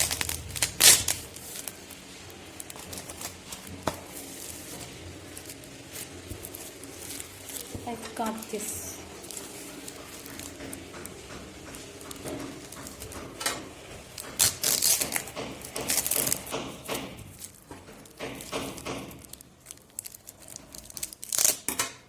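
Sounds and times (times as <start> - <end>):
packaging rustling and crinkling: 0.0 - 13.4, 14.0 - 16.6, 17.2 - 21.8.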